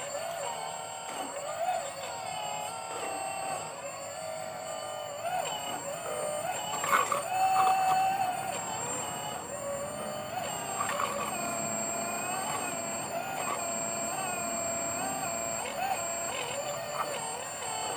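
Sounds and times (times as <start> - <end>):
hydraulic pump motor whining: 0.0 - 17.9
high electronic tone: 1.1 - 17.9.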